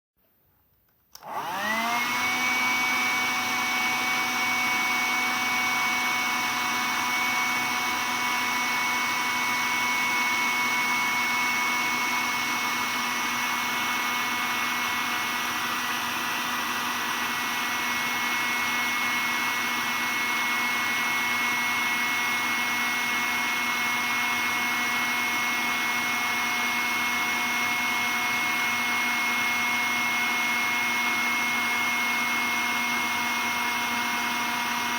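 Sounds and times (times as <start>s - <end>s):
vacuum cleaner motor whining: 1.1s - 34.9s.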